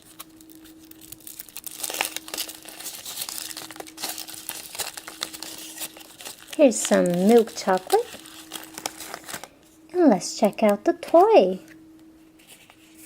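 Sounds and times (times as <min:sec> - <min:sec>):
foil wrapper crinkling: 0:00.0 - 0:11.6.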